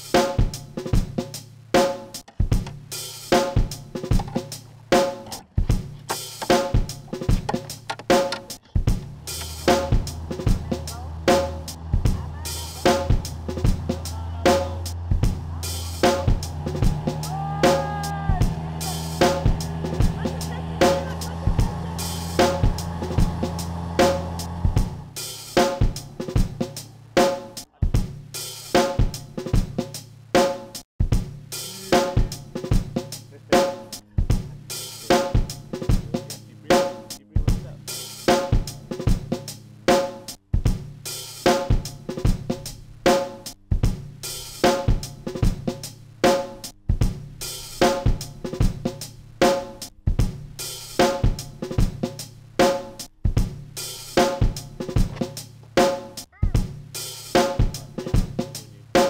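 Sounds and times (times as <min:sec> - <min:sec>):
drum-driven background music: 0:00.0 - 0:59.0.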